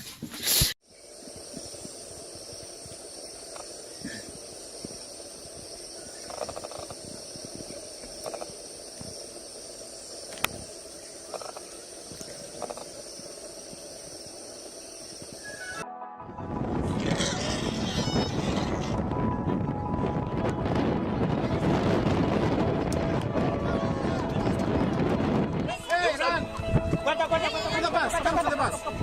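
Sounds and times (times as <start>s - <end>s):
insects chorus: 0.8s - 15.8s, 16.8s - 19.2s, 21.4s - 29.0s.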